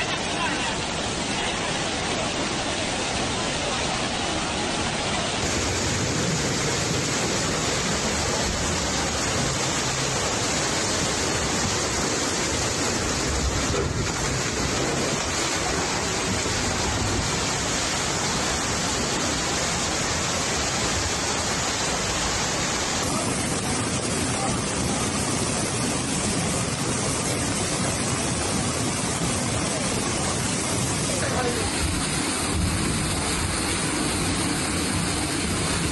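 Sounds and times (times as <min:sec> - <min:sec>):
flood water rushing: 0:00.0 - 0:35.9.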